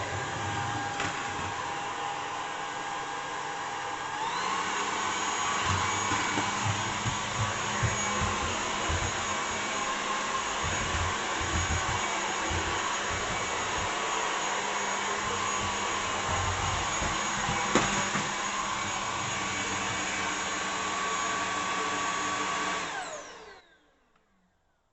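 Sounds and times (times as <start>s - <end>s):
stick vacuum running: 0.0s - 24.0s.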